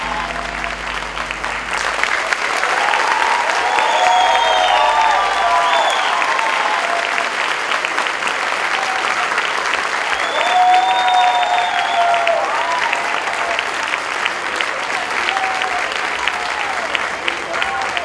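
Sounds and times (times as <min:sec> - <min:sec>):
audience applauding: 0:00.0 - 0:18.0
cheering voices: 0:00.0 - 0:18.0.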